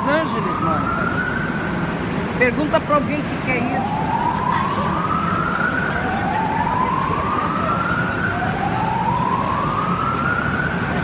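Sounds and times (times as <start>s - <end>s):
whooping building alarm: 0.0s - 2.0s, 3.1s - 11.0s.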